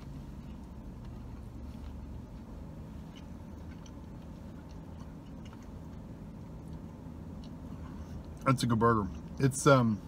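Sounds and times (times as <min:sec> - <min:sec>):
chewing burger: 0:00.0 - 0:09.6
steady low hum: 0:00.0 - 0:10.0.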